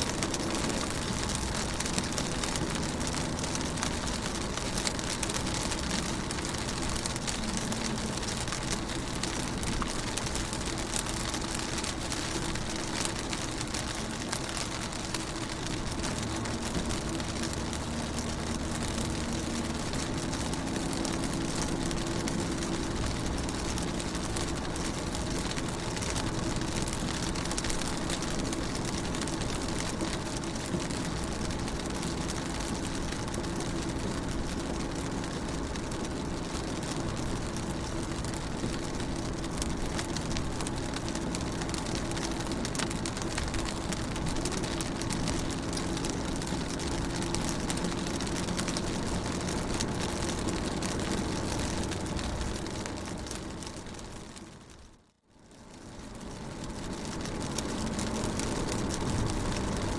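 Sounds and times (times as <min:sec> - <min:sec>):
rain pattering on car window: 0:00.0 - 0:59.9.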